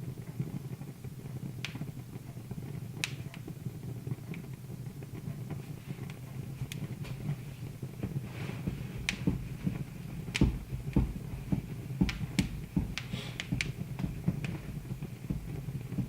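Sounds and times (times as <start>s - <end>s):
soft hisses: 0.0s - 16.0s
wood fire crackling and popping: 0.0s - 16.0s.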